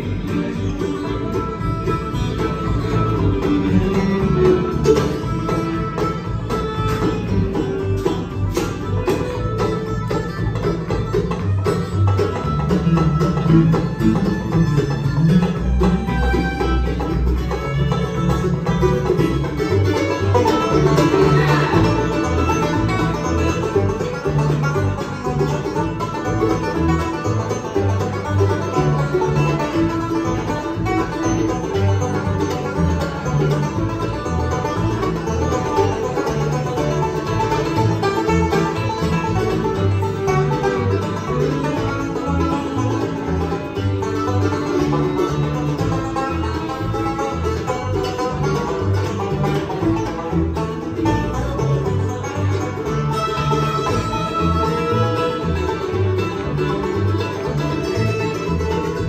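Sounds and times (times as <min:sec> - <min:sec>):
banjo picking: 0:00.0 - 0:59.0
guitar: 0:00.0 - 0:59.0
low bass line: 0:00.0 - 0:59.0.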